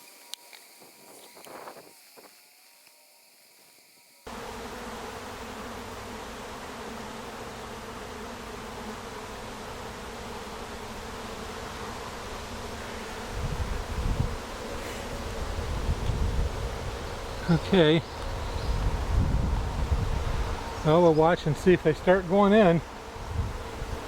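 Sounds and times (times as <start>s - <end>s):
honeybee swarm buzzing: 0.0s - 24.0s.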